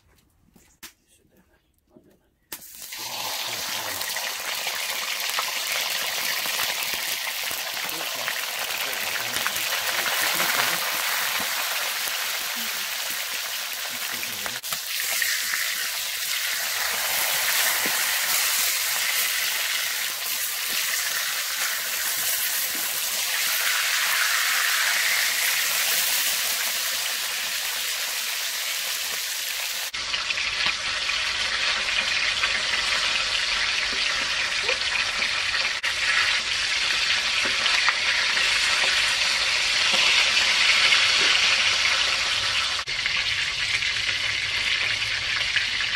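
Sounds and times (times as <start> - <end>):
fish sizzling in hot oil: 2.5 - 45.9.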